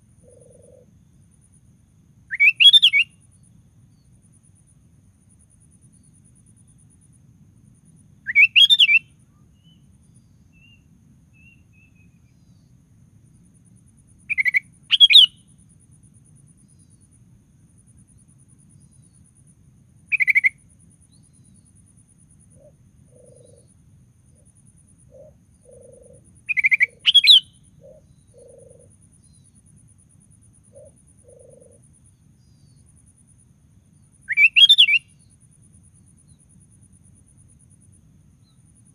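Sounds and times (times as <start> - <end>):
faint low background hum: 0.0 - 38.9.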